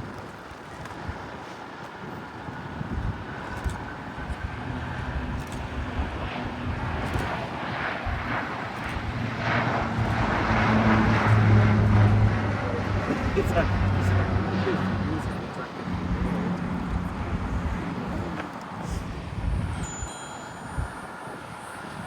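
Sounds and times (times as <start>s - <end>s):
jet engines humming: 1.5s - 22.0s.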